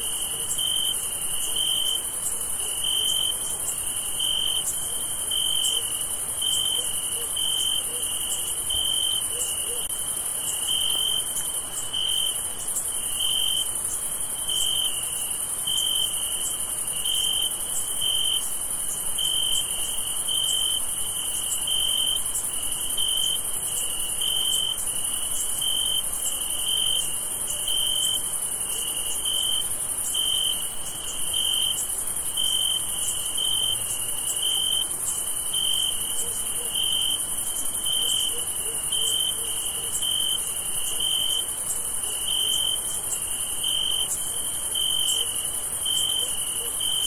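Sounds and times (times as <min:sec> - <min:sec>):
cricket chirping: 0:00.0 - 0:47.0
insect chorus trilling: 0:00.0 - 0:47.0.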